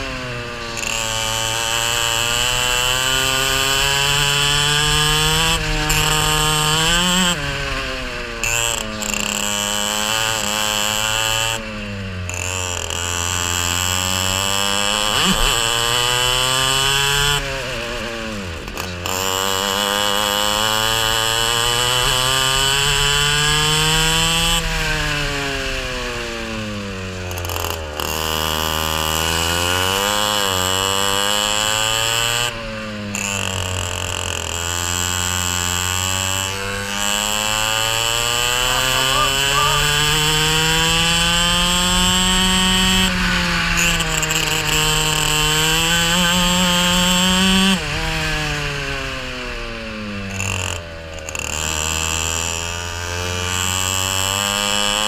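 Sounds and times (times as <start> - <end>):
kart engine at full throttle: 0.0 - 55.0.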